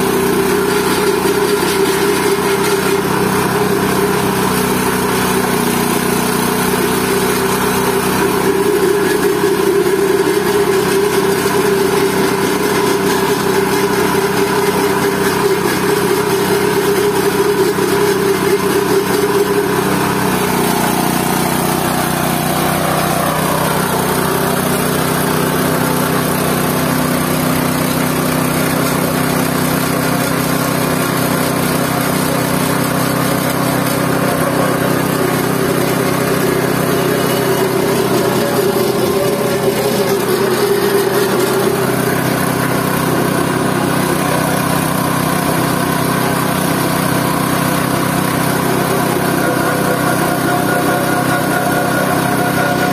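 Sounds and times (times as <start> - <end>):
pulping machine hum: 0.0 - 52.9.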